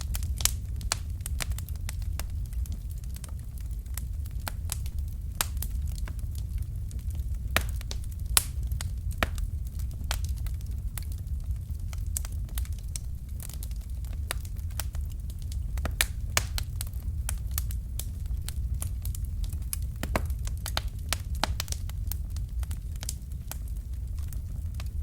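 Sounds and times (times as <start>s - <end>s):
fire crackling and popping: 0.0s - 25.0s
low fire rumble: 0.0s - 25.0s.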